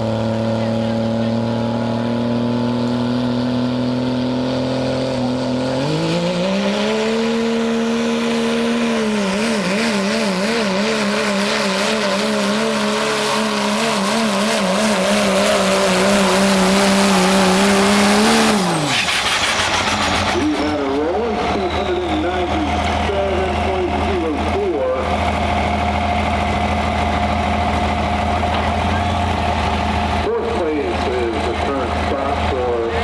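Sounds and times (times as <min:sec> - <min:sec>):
pickup engine revving: 0:00.0 - 0:33.0.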